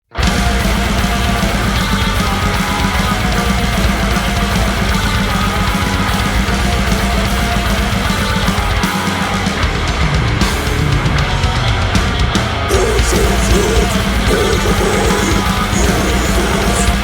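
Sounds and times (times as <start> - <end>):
death metal band: 0.1 - 17.0
distorted electric guitars: 0.1 - 17.0.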